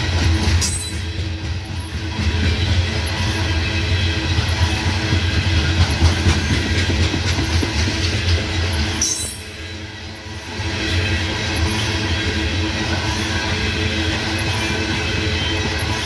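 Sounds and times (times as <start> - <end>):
freight train cars rolling past: 0.0 - 16.0.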